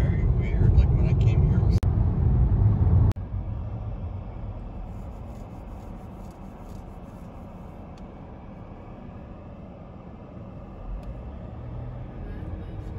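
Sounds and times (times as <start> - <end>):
car road noise inside cabin: 0.0 - 12.9.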